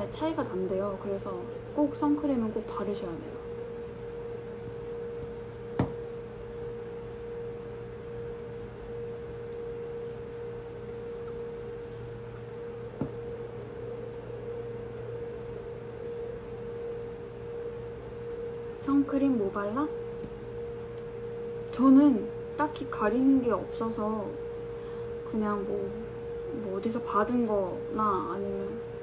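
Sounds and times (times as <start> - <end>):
faint low hum: 0.0 - 29.0
steady hum: 0.0 - 29.0.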